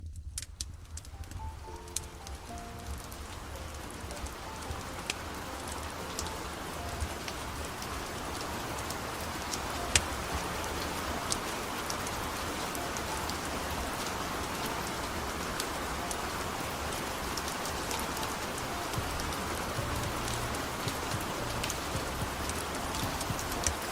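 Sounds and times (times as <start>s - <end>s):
steady rain falling: 0.0s - 23.9s
wood fire crackling and popping: 0.0s - 23.9s.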